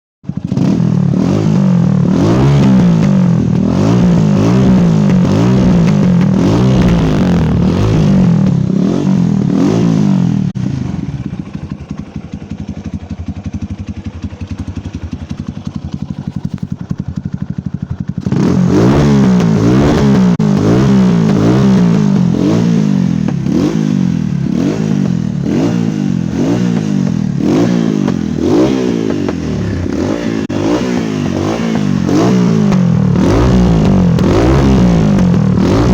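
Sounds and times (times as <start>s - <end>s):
motorcycle engine idling: 0.2s - 35.9s
motorcycle engine revving: 0.2s - 35.9s.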